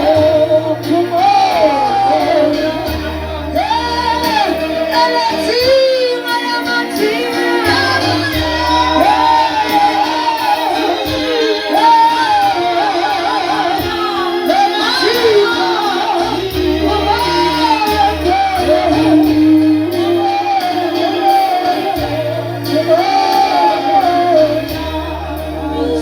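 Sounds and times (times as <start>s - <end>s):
keyboard accompaniment: 0.0s - 26.0s
people singing worship song: 0.0s - 26.0s.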